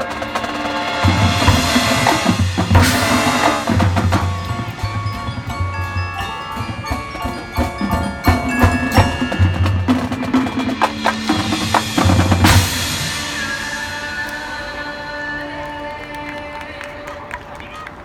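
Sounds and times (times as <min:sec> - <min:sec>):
marching band playing: 0:00.0 - 0:16.7
mallet percussion bell-like notes: 0:00.9 - 0:15.7.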